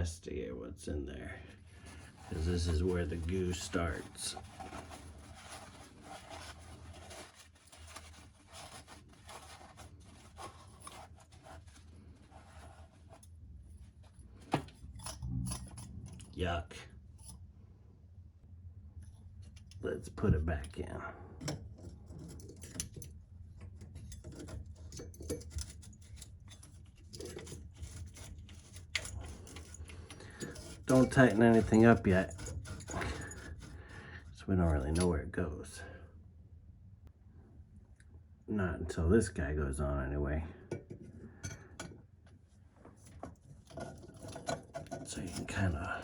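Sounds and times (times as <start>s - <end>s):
low steady hum: 0.0s - 46.0s
rubbing and scraping of pipe parts: 1.4s - 17.5s, 19.0s - 35.2s, 40.6s - 46.0s.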